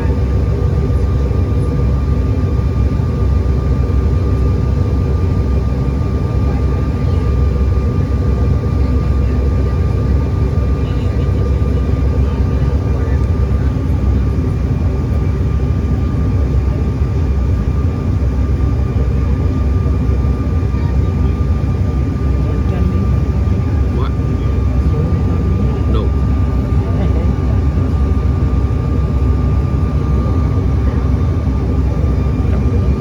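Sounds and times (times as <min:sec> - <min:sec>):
jet engine cabin rumble: 0:00.0 - 0:33.0
thin steady whine: 0:00.0 - 0:33.0.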